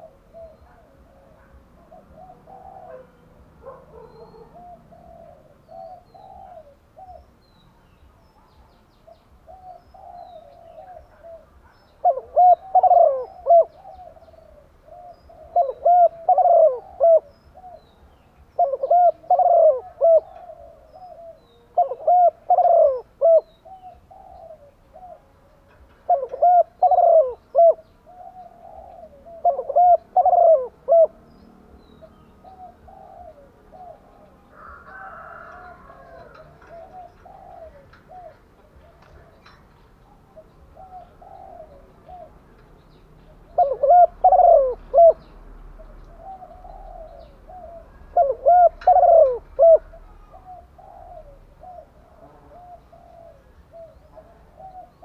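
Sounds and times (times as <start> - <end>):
dove cooing: 0.0 - 7.3, 8.4 - 55.0.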